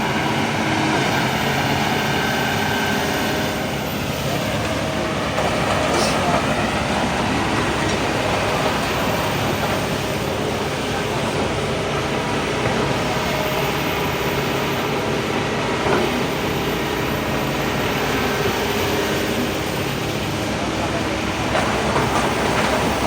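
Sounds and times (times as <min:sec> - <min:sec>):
excavator engine and machinery: 0:00.0 - 0:23.0.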